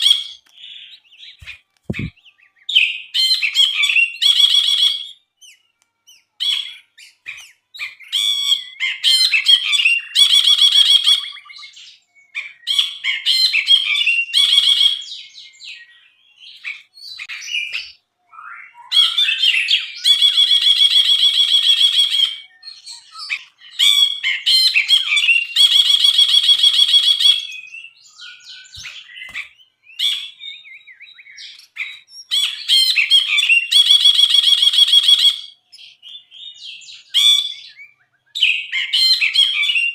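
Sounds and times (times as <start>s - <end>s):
bird chirps: 0.0s - 39.9s
bird singing buzzy trills: 0.0s - 39.9s.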